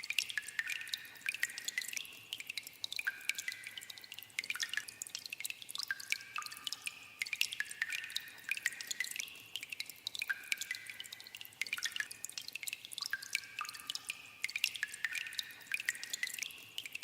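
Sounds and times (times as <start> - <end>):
water dripping into pools: 0.0 - 17.0.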